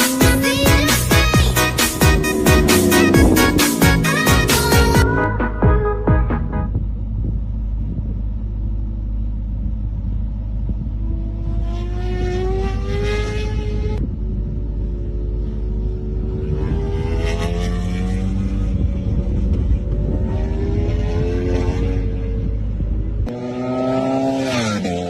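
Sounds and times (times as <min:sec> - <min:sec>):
racing motorcycle accelerating: 0:00.0 - 0:25.0
steady low rumble: 0:00.2 - 0:17.2, 0:18.5 - 0:23.4.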